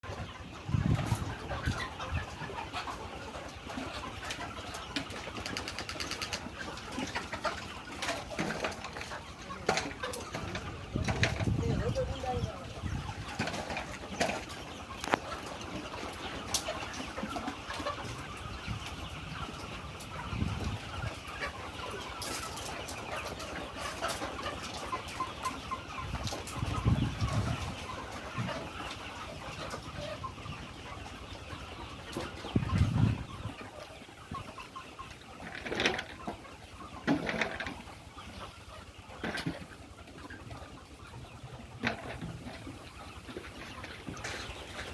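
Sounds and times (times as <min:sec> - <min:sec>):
chicks peeping and chirping: 0:00.0 - 0:44.9.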